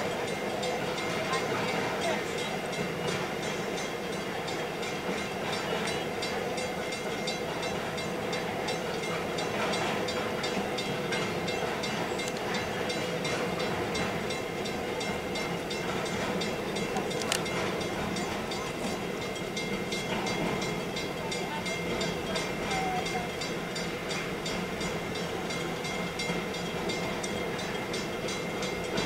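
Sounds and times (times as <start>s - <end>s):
freight train rumble and clatter: 0.0s - 29.0s.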